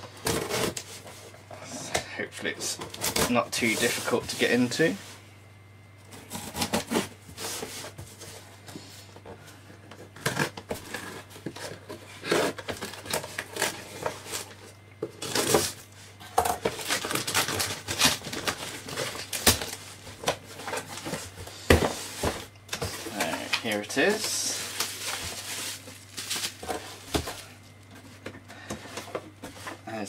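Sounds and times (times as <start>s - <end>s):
cardboard scraping and rustling: 0.2s - 1.4s, 2.6s - 5.2s, 6.1s - 15.8s, 16.6s - 30.0s.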